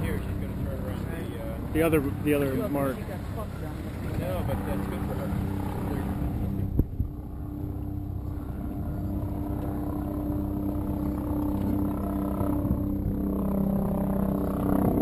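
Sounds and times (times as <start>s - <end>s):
motorboat engine idling: 0.0s - 15.0s.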